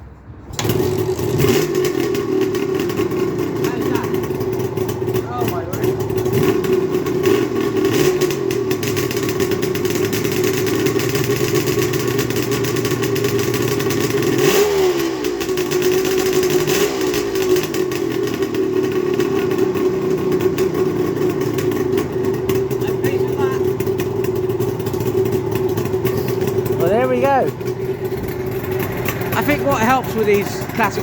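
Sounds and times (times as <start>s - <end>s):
two-stroke engine fast idle: 0.6s - 31.0s.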